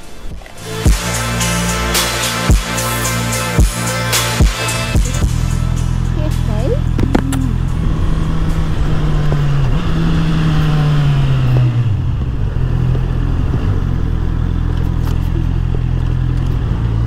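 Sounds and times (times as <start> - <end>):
motorcycle engine running: 0.5 - 17.0.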